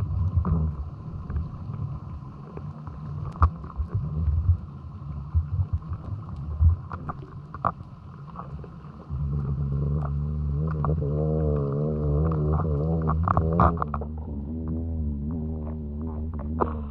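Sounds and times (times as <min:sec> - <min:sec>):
underwater knocks and bumps: 0:00.0 - 0:08.7, 0:09.4 - 0:16.9
low droning hum: 0:00.0 - 0:16.9
low watery rumble: 0:00.0 - 0:16.9.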